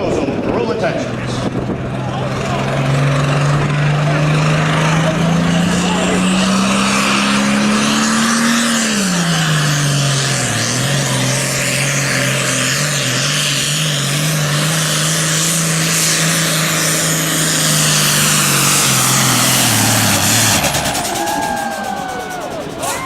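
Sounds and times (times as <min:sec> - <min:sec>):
tractor engine at full throttle: 0:00.0 - 0:23.0.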